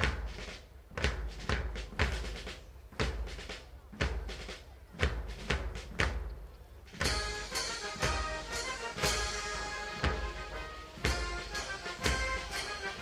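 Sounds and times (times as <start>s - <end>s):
lighter drum strokes: 0.0s - 13.0s.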